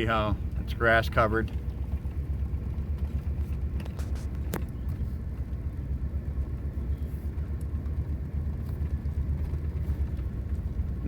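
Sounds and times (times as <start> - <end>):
vehicle rumble on dirt road: 0.0 - 11.0.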